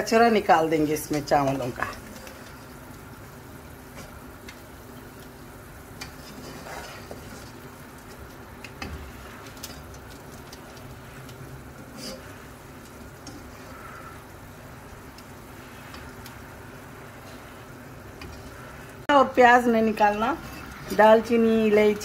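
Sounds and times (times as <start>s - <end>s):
water boiling hard in a pot: 0.0s - 22.0s.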